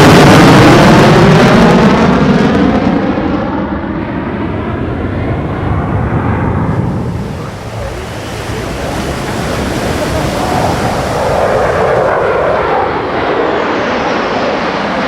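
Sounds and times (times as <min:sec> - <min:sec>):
fighter jet roar: 0:00.0 - 0:15.0.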